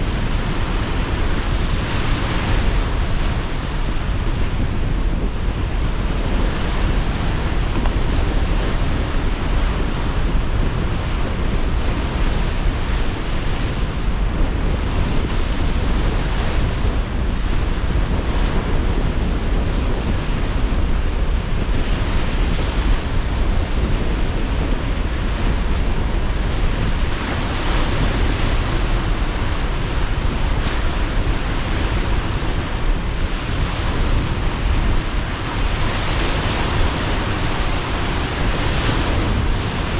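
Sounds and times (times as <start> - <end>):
gusting wind: 0.0 - 39.9
sea surf breaking on shore: 0.0 - 39.9.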